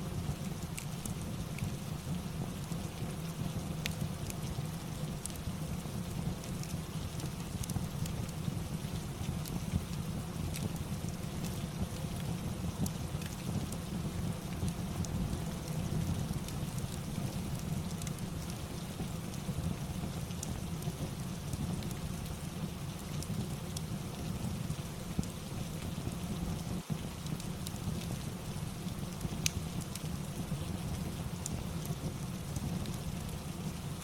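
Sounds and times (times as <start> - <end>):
steady rain: 0.0 - 34.0
wood fire crackling: 0.0 - 34.0.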